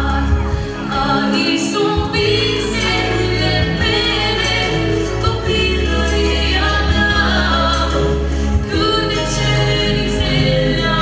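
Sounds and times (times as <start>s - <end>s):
backing track with bass: 0.0s - 11.0s
girl singing through microphone: 0.0s - 11.0s.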